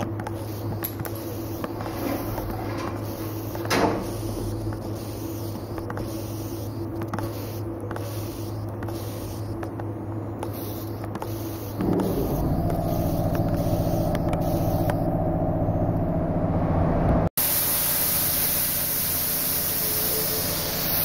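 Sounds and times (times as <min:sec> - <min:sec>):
low electrical hum: 0:00.0 - 0:17.3.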